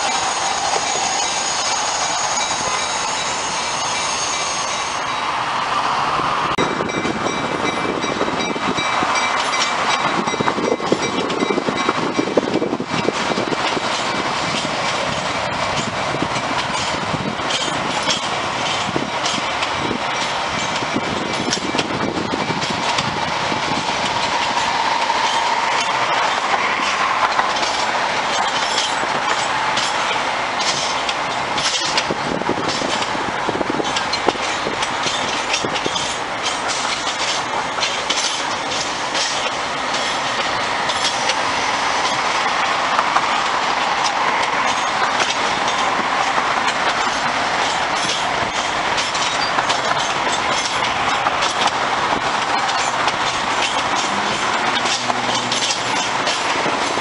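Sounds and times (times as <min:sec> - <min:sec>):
train wheels clicking over rail joints: 0:00.0 - 0:05.0, 0:06.5 - 0:57.0
rumble of rail cars: 0:00.0 - 0:57.0.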